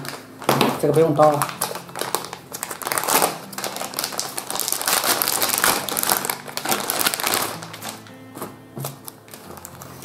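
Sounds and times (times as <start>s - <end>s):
plastic bag crinkling: 0.0s - 8.3s, 8.9s - 10.0s.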